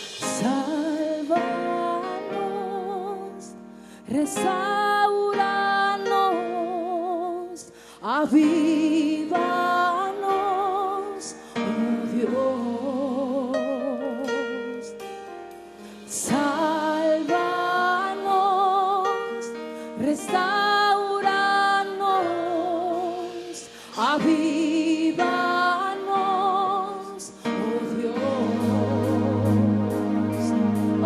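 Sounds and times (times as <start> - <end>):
woman singing into a microphone: 0.0 - 15.1, 16.0 - 30.6
soft instrumental accompaniment: 0.0 - 31.0.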